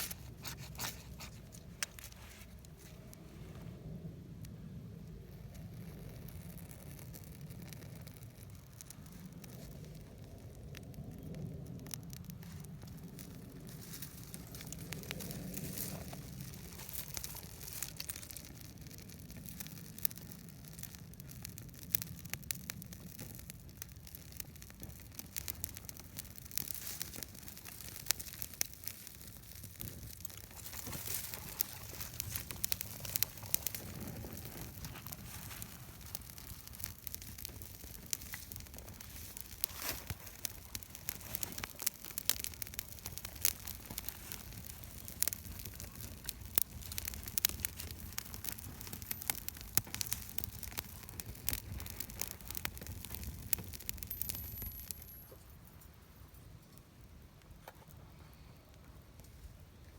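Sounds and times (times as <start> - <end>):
low steady rumble: 0.0 - 57.3
campfire crackling: 0.0 - 59.9.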